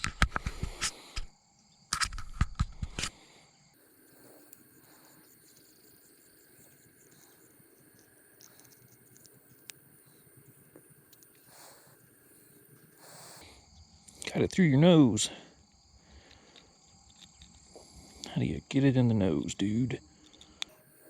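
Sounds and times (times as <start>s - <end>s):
insect chirring: 0.9s - 21.0s.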